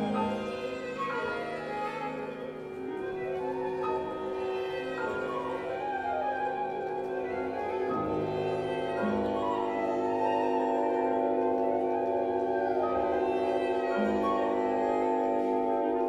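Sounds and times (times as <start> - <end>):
bowed strings sustained chord: 0.0 - 16.0.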